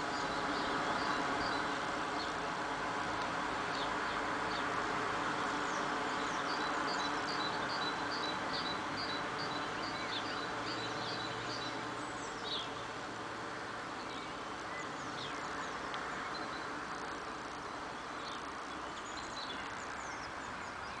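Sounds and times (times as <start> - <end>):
birds calling over loudspeakers: 0.0 - 2.4, 5.5 - 21.0.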